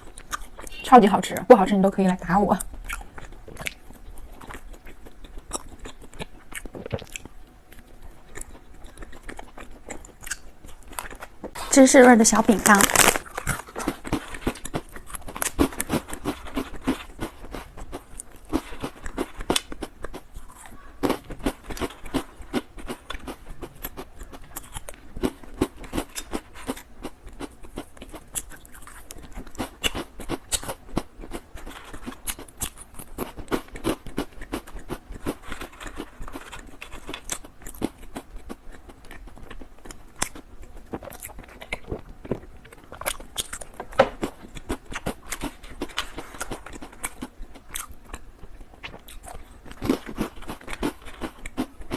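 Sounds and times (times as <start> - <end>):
crunching and chewing biscuits: 0.0 - 51.9.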